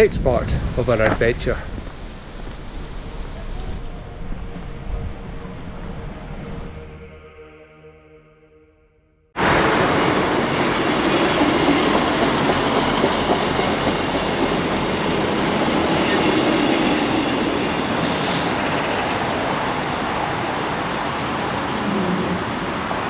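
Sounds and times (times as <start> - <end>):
train rumbling on rails: 0.0 - 7.3, 9.4 - 23.0.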